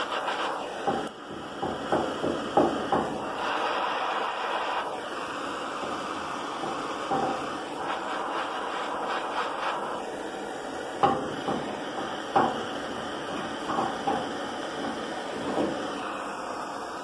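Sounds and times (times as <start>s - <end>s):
blowtorch hissing: 0.0s - 17.0s.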